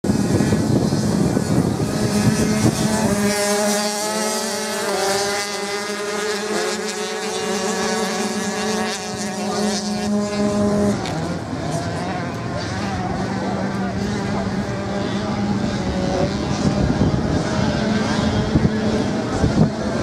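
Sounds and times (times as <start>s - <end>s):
motocross bike engines revving: 0.1s - 20.0s.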